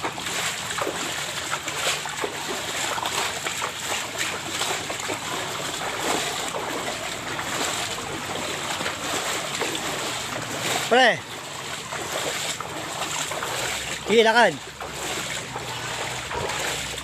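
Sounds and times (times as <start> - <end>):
footsteps wading through water: 0.0 - 17.0
water washing: 0.0 - 17.0.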